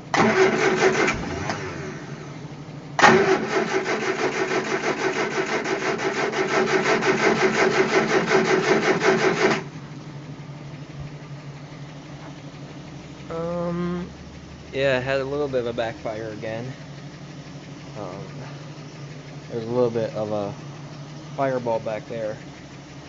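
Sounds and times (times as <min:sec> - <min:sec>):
engine cranking on starter: 0:00.0 - 0:23.0.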